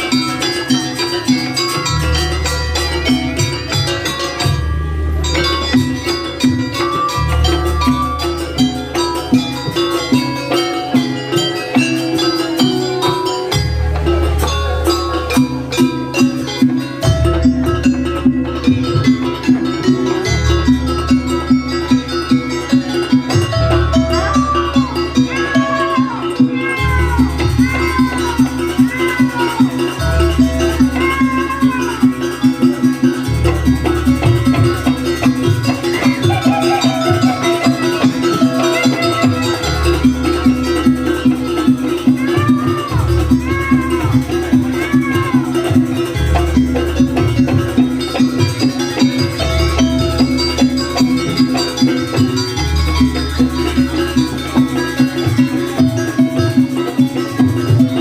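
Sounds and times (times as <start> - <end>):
gamelan music: 0.0 - 58.0
metal percussion steady beat: 0.0 - 58.0.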